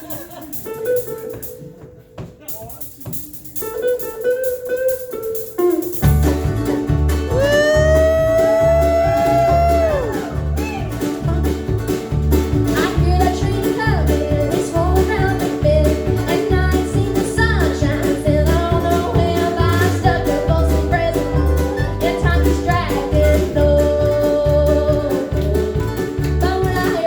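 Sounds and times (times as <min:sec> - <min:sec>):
bluegrass band playing: 0:00.0 - 0:27.0.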